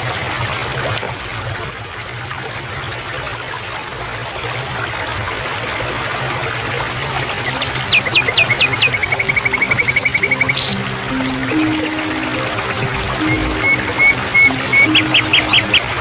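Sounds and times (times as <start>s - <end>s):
stream trickling: 0.0s - 16.0s.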